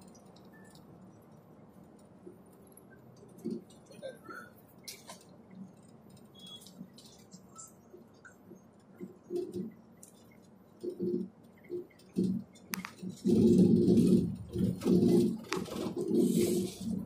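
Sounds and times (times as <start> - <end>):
faint clicks and rattles: 0.0 - 17.0.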